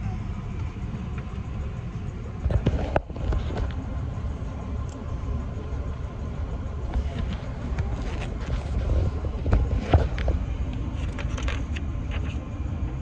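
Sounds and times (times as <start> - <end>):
van engine and road rumble: 0.0 - 13.0.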